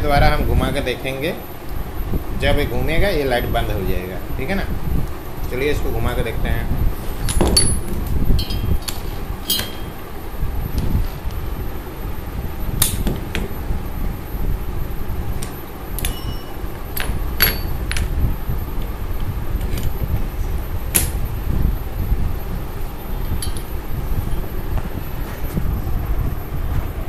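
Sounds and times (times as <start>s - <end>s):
high whine: 0.0s - 27.0s.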